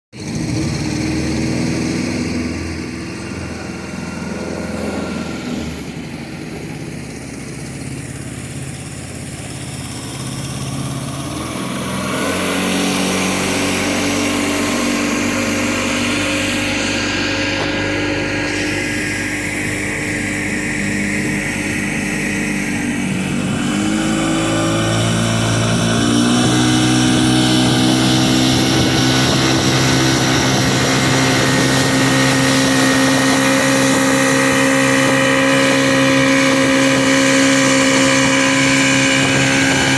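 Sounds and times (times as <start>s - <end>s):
motorboat engine running: 0.2s - 39.9s.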